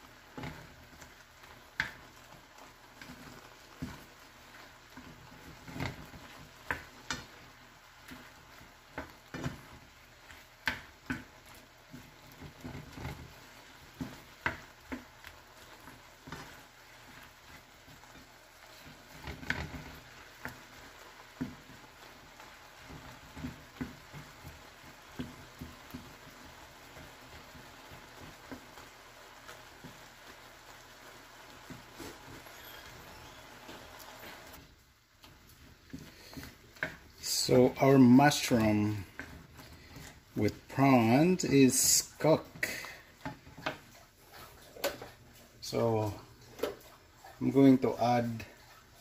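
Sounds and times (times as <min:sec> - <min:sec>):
liquid sizzling in a pan: 0:00.0 - 0:49.0
wooden spatula scraping a pan: 0:00.0 - 0:49.0.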